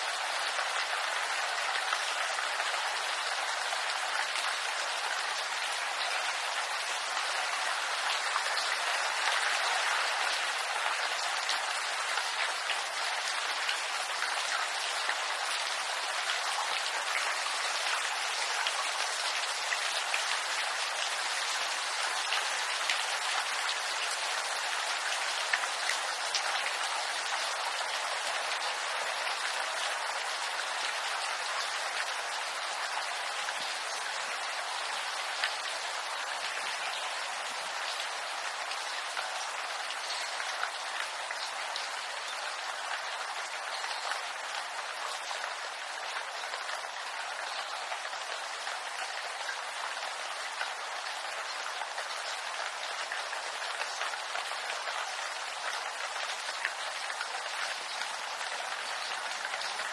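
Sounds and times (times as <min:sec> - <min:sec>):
rain falling on bamboo: 0:00.0 - 0:59.9.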